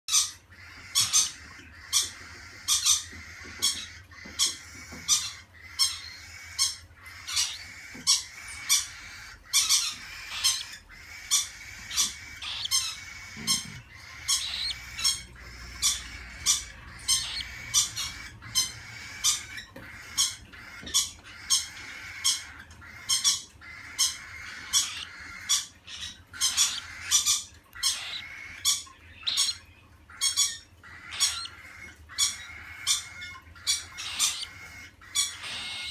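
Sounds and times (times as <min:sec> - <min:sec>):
cockatiels squawking: 0:00.1 - 0:35.9.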